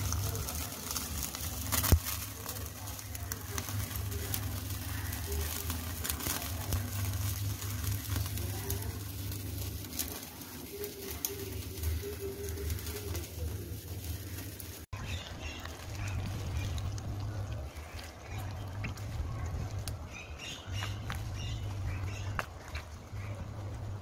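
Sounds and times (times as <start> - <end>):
chicken sizzling on grill: 0.0 - 24.0
low steady hum: 0.0 - 24.0
pigeons cooing: 0.0 - 24.0.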